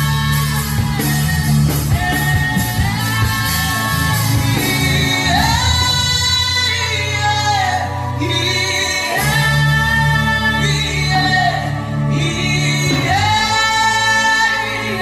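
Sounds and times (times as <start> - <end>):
instrumental backing with bass: 0.0 - 15.0.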